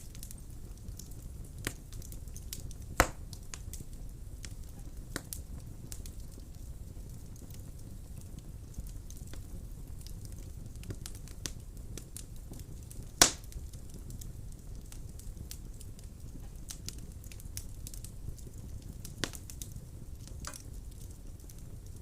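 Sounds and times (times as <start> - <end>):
burning wood popping: 0.0 - 22.0
wood fire burning: 0.0 - 22.0.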